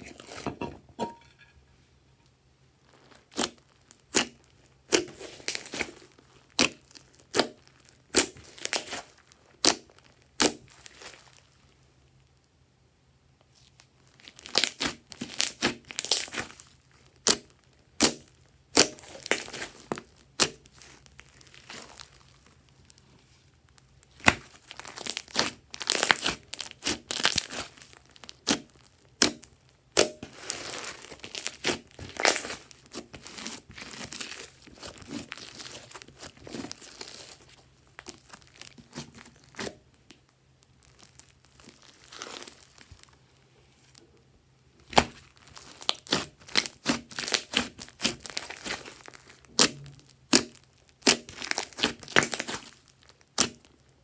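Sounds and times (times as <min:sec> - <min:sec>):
slime crackling and popping: 0:02.9 - 0:12.4, 0:13.6 - 0:43.2, 0:44.8 - 0:54.0.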